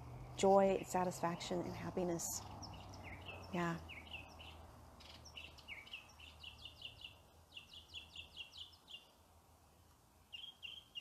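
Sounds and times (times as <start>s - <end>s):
faint bird chirping: 0.0s - 9.2s, 10.1s - 11.0s.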